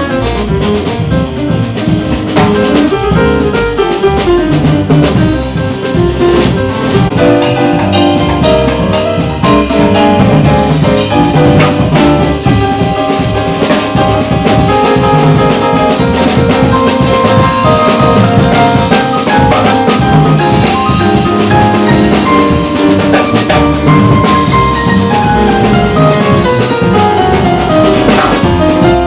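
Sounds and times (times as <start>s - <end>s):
double bass: 0.0s - 29.0s
piano: 0.0s - 29.0s.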